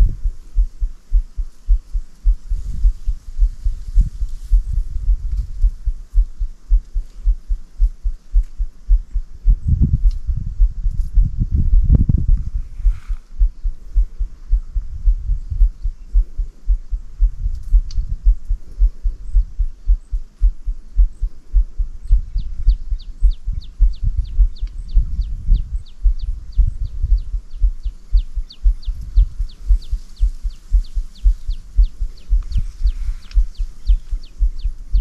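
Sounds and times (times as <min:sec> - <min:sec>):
low thumps: 0:00.0 - 0:35.0.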